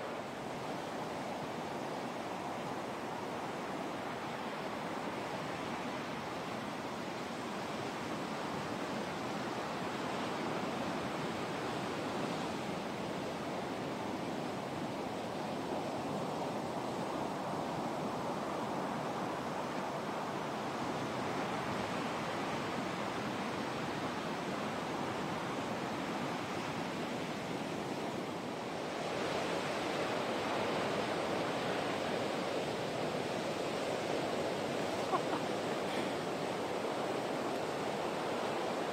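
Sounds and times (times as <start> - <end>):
waves crashing on sand: 0.0 - 38.9.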